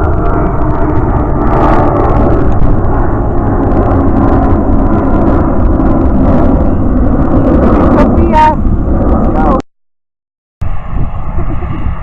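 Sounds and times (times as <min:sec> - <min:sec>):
jet engines roaring: 0:00.0 - 0:09.6, 0:10.6 - 0:12.0.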